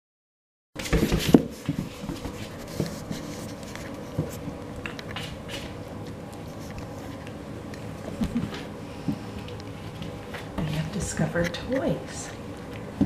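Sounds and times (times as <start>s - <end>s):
puppies scratching and rustling: 0.8s - 13.0s
steady low hum: 0.8s - 13.0s.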